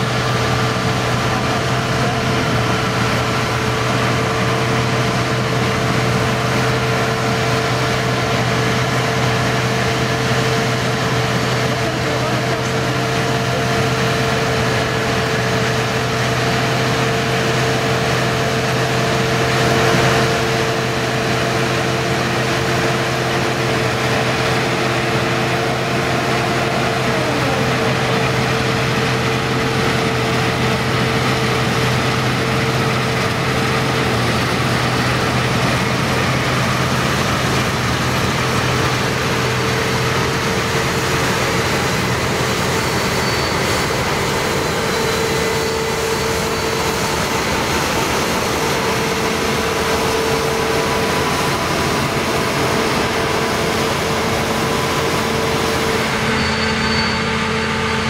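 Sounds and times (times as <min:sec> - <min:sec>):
combine harvester running: 0:00.0 - 0:58.0
tractor running: 0:00.0 - 0:58.0.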